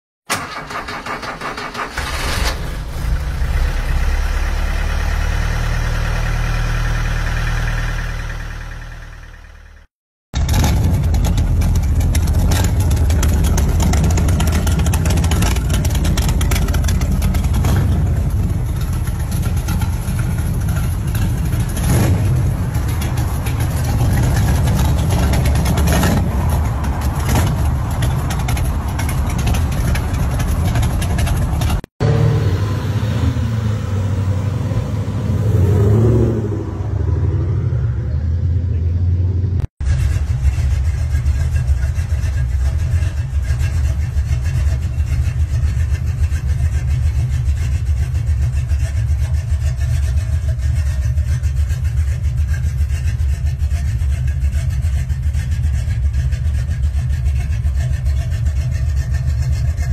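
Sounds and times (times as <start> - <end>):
car engine revving: 0.3 - 59.9
car engine running with surges: 0.3 - 59.9.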